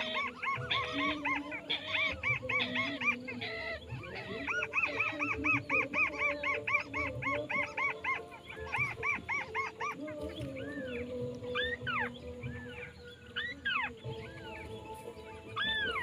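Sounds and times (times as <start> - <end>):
crake calling: 0.0 - 16.0.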